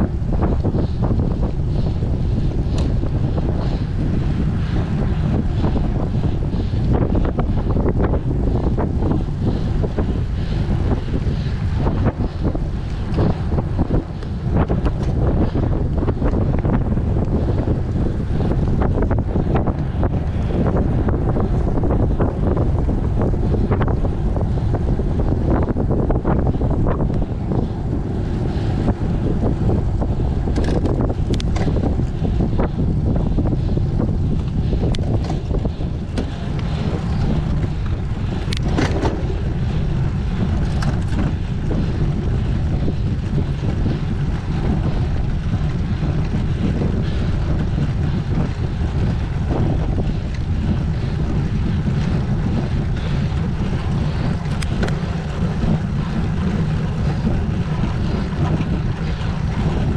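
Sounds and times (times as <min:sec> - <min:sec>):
tyres humming on asphalt: 0:00.0 - 0:59.9
wind rumbling over microphone: 0:00.0 - 0:59.9.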